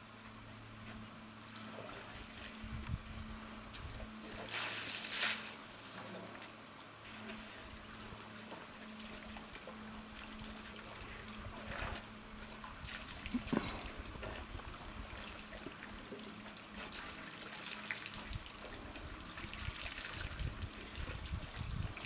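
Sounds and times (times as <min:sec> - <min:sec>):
water trickling and splashing: 0:01.5 - 0:03.0, 0:03.7 - 0:22.0
elephants drinking water: 0:03.8 - 0:22.0.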